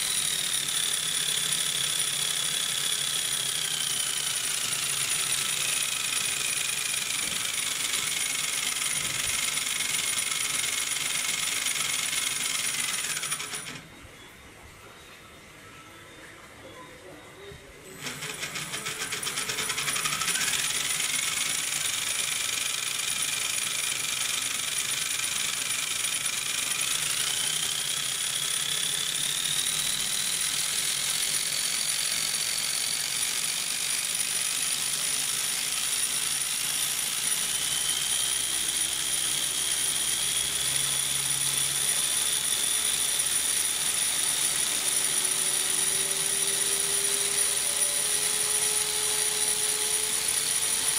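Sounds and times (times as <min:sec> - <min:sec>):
electric motor rising whine: 0:00.0 - 0:14.3, 0:17.9 - 0:34.2, 0:35.6 - 0:50.9.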